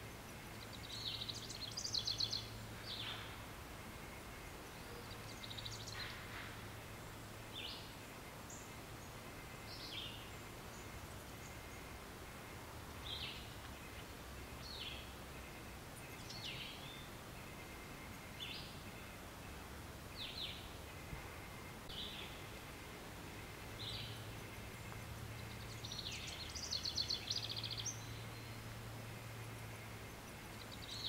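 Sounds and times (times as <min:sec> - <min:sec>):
faint low hum: 0:00.0 - 0:31.0
small birds chirping: 0:00.0 - 0:31.0.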